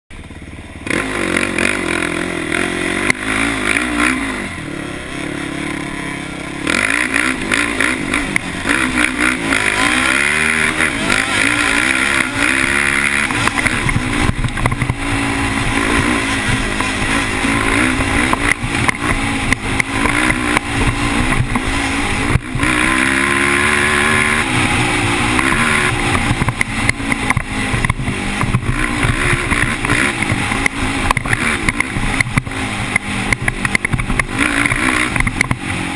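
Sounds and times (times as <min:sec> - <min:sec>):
atv engine revving: 0:00.1 - 0:35.9.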